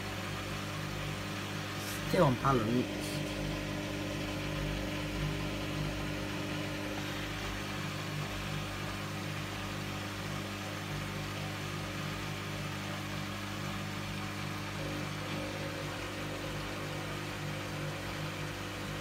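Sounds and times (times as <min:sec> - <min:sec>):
washing machine motor humming: 0:00.0 - 0:19.0.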